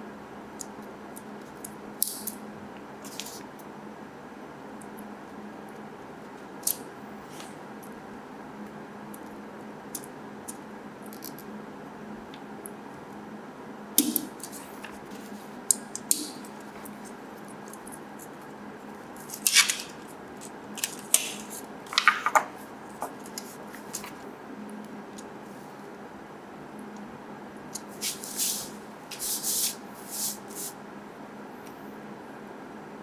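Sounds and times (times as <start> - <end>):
room hum: 0.0 - 33.0.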